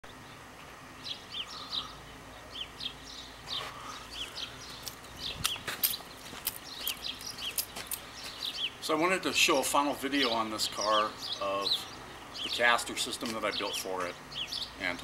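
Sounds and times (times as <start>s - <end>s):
outdoor background noise: 0.0s - 15.0s
small birds chirping: 0.1s - 15.0s.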